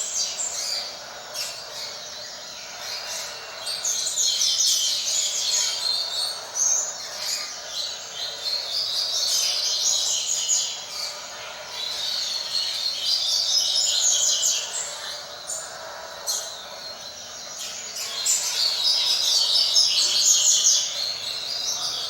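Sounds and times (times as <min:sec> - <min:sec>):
bird chirping song: 0:00.0 - 0:22.0.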